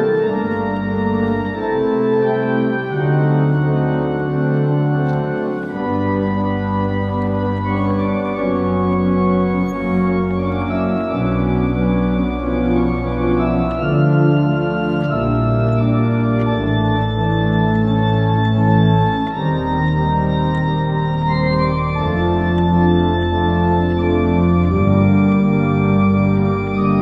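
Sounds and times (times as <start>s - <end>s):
organ playing sustained chords: 0.0s - 27.0s.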